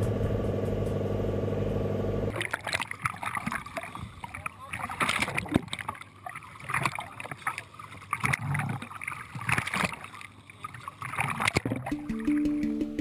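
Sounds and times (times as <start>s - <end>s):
water sloshing and splashing: 2.3s - 12.8s.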